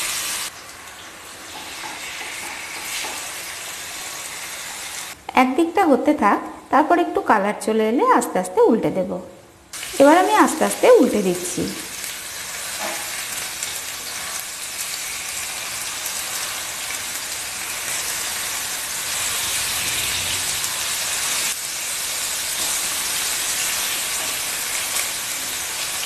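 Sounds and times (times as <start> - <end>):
fish sizzling in hot oil: 0.0 - 5.2, 9.8 - 26.0.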